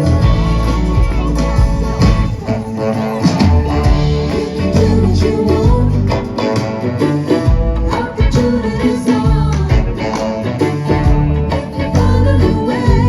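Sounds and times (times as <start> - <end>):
live band music with guitar: 0.0 - 13.0
person singing: 2.4 - 13.0.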